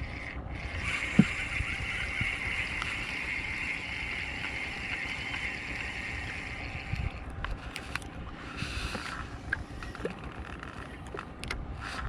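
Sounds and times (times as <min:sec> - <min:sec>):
fishing reel whirring: 0:00.0 - 0:12.0
low wind: 0:00.0 - 0:12.0
water rumble: 0:00.0 - 0:12.0.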